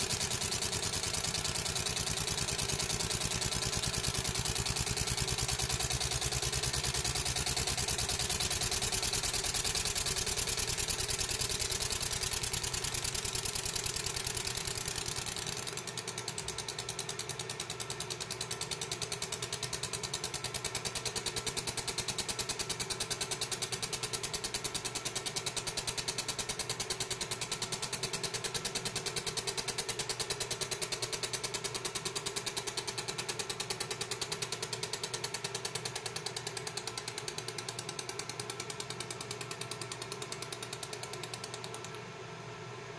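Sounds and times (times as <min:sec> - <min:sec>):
laser engraver buzzing rattle: 0:00.0 - 0:42.0.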